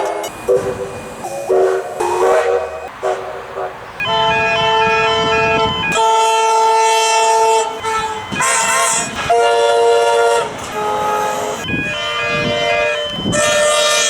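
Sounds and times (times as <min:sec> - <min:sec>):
train air horn blasts: 0:00.0 - 0:14.0.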